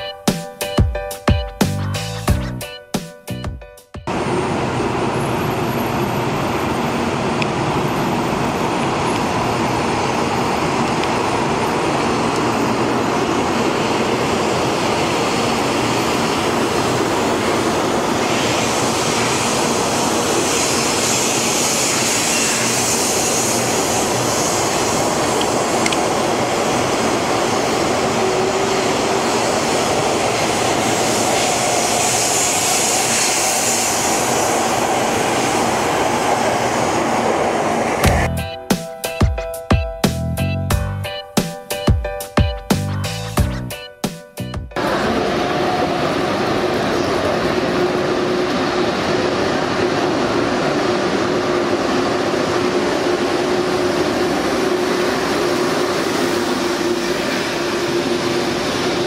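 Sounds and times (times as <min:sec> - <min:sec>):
high-speed train running past: 0:00.0 - 0:01.4, 0:02.0 - 0:59.0.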